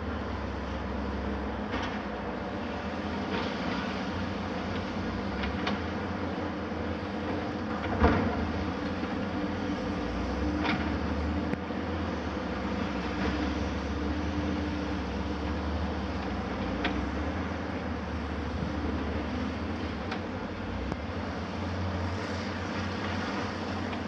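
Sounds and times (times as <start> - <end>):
heavy machinery engine drone: 0.0 - 24.0.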